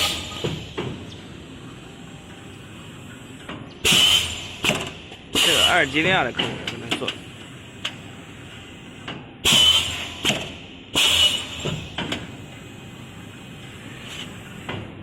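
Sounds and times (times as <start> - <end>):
machine clatter and hiss bursts: 0.0 - 1.8, 2.6 - 15.0
production machinery hum: 0.0 - 15.0.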